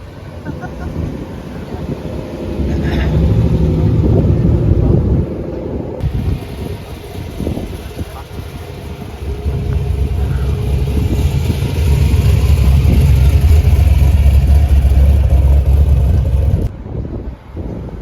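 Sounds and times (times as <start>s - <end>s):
car engine driving past: 0.5s - 16.7s.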